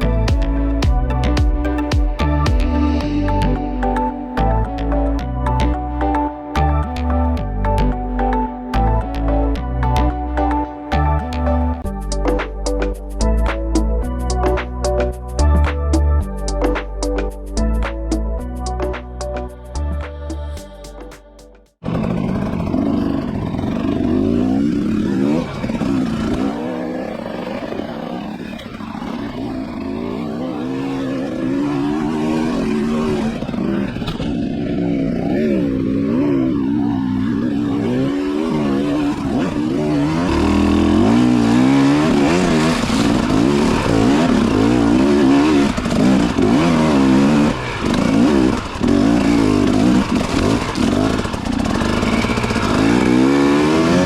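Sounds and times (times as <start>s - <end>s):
motorcycle engine running: 0.0s - 18.8s, 21.8s - 54.0s.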